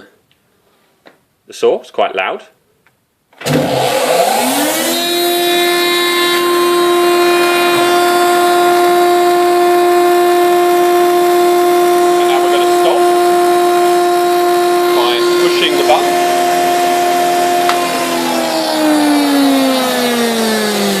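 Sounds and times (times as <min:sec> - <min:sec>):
planer motor whining: 0:03.4 - 0:21.0.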